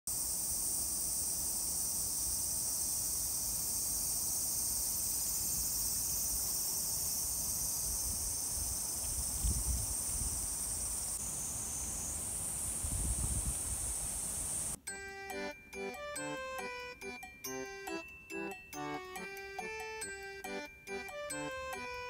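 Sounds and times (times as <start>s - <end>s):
cicadas singing: 0.1s - 22.0s.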